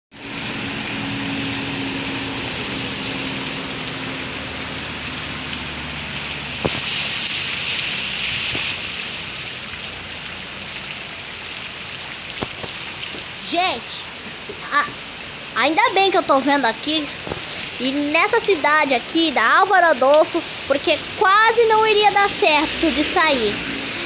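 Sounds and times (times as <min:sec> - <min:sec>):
heavy rain on a wet street: 0:00.1 - 0:24.0.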